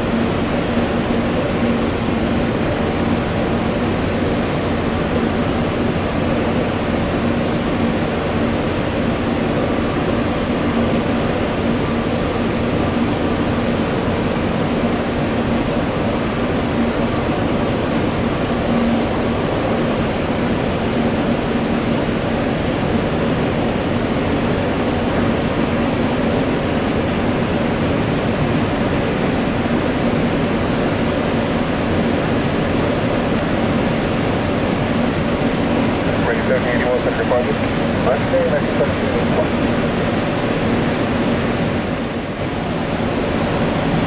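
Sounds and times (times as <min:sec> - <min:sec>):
jet engine rushing: 0:00.0 - 0:44.0.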